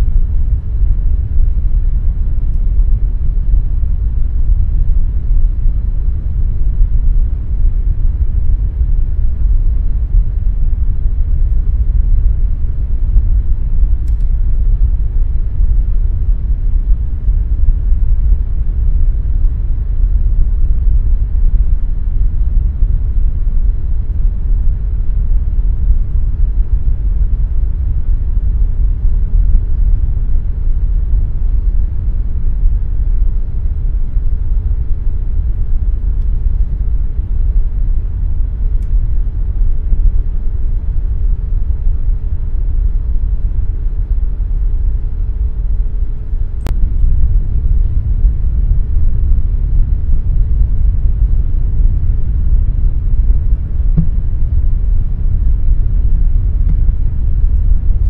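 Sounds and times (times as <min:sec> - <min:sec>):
air conditioner fan rumble: 0:00.0 - 0:58.0
faint steady hum: 0:00.0 - 0:58.0.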